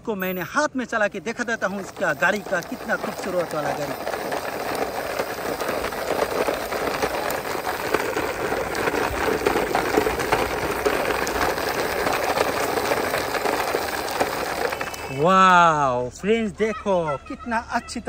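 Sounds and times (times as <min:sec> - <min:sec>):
toy wheels rattling over paving: 0:00.1 - 0:18.0.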